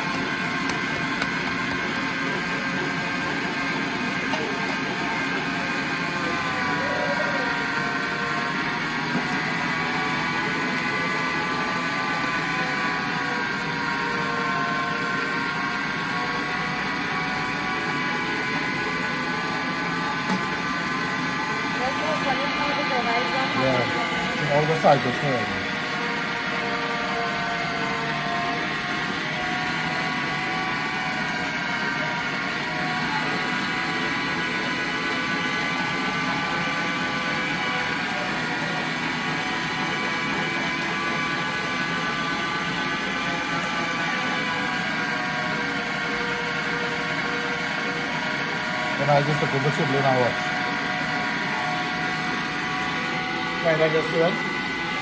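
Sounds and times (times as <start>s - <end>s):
electric meat grinder whining: 0.0s - 55.0s.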